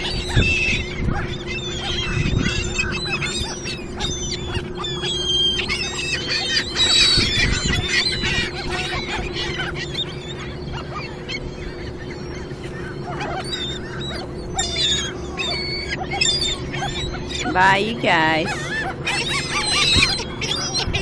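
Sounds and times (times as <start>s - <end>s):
seagulls calling: 0.0s - 21.0s.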